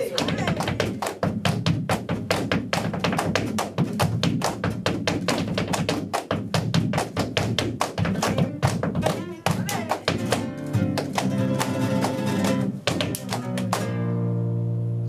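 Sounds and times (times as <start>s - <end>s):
dancer's heels tapping floor: 0.0s - 14.0s.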